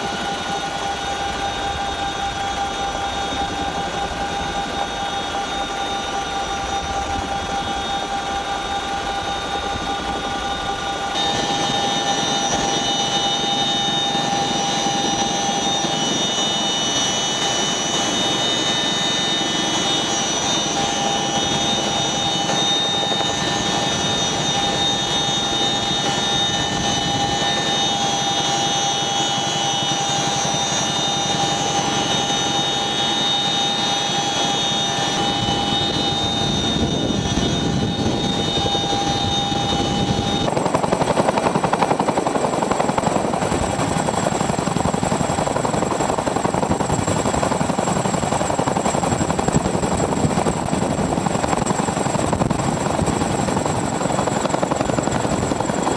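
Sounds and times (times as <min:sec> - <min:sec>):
helicopter rotor noise: 0:00.0 - 0:55.9
helicopter turbine whine: 0:00.0 - 0:55.9.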